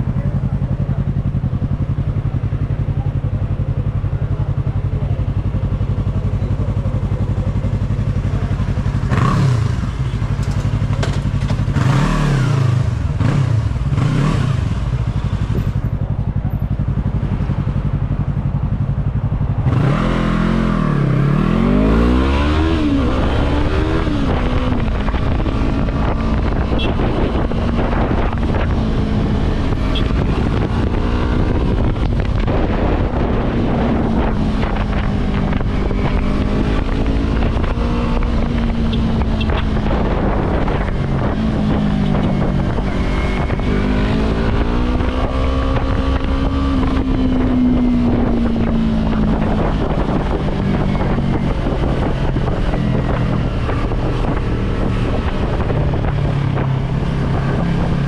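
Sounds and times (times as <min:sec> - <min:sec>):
motorcycle engine revving: 0:00.0 - 0:58.0
wind noise on microphone: 0:07.2 - 0:58.0.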